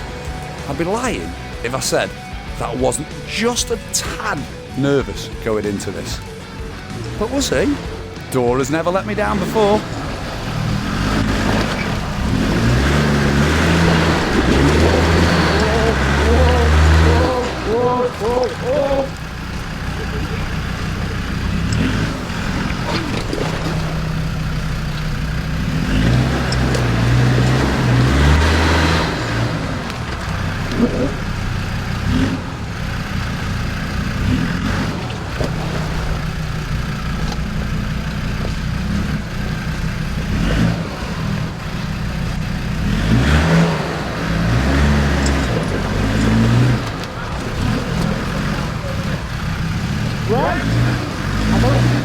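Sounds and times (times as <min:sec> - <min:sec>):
truck engine revving hard: 0:00.0 - 0:52.0.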